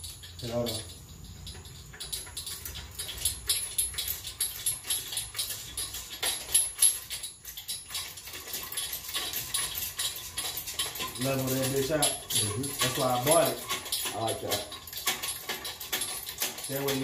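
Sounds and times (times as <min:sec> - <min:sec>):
metallic clinking and rattling: 0:00.0 - 0:17.0.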